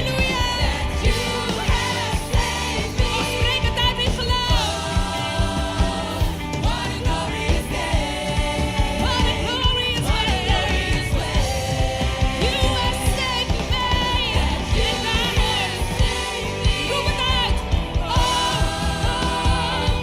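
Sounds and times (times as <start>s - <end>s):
full band with steady beat: 0.0s - 20.0s
voices singing: 0.0s - 20.0s.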